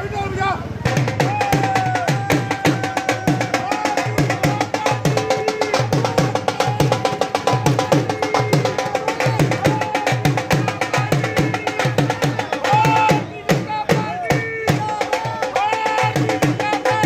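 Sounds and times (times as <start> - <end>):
drum in fast rhythm: 0.8 - 17.0.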